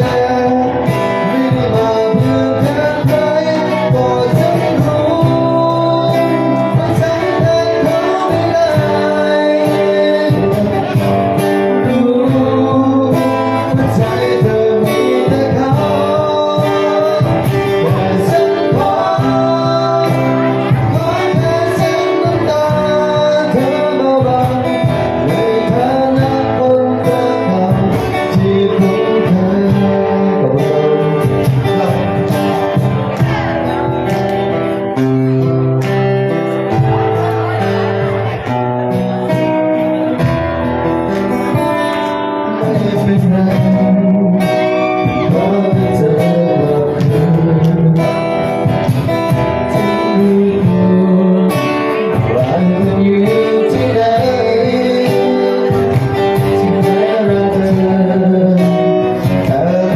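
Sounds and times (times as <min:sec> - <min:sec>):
guitar accompaniment: 0:00.0 - 0:59.9
man singing: 0:00.0 - 0:59.9.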